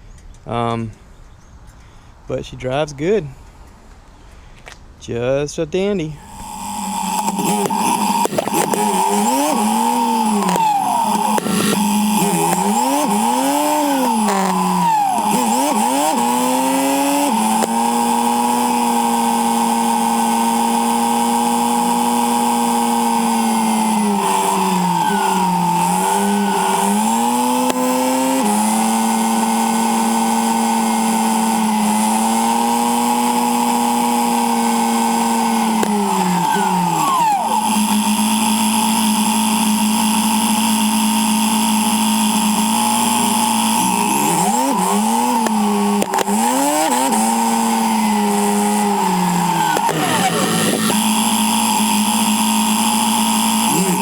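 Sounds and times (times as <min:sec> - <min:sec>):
motorcycle engine running: 0:06.1 - 0:54.0.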